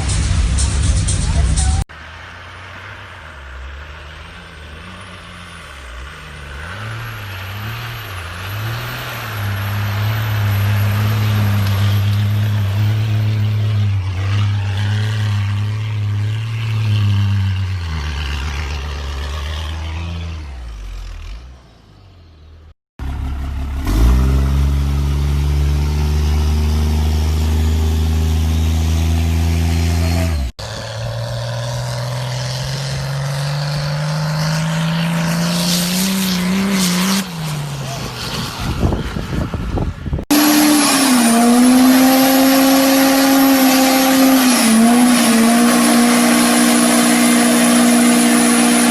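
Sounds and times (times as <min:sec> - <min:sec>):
diesel truck engine running: 0:00.0 - 0:35.5, 0:37.2 - 0:48.9
truck engine accelerating: 0:00.0 - 0:48.9.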